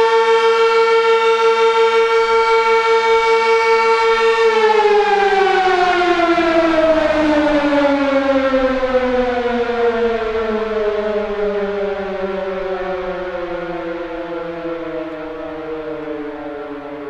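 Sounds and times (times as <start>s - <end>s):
warning siren wavering tone: 0.0s - 17.0s.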